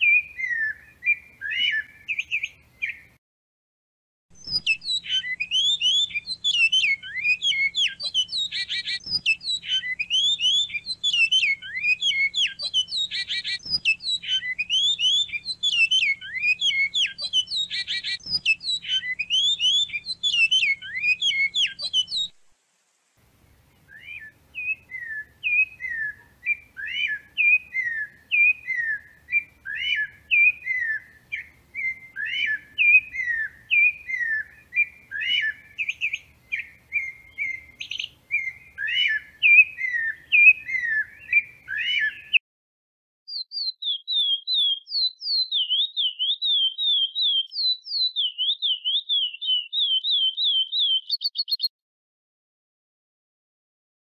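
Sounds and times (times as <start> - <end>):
tanager squeaky chirping: 0.0 - 3.1, 4.4 - 22.4, 23.9 - 42.4, 43.3 - 51.7
canary singing warbling song: 0.0 - 3.2, 4.3 - 22.4, 23.6 - 42.4, 43.3 - 51.7.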